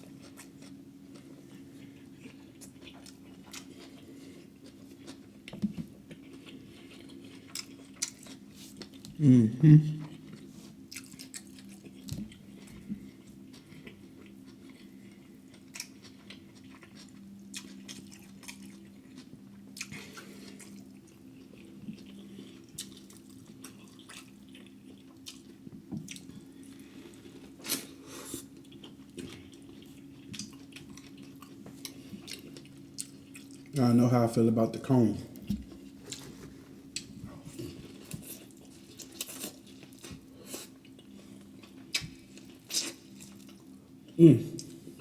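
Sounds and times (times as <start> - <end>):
person chewing with wet smacks: 0.0 - 9.2, 9.9 - 33.8, 35.4 - 45.0.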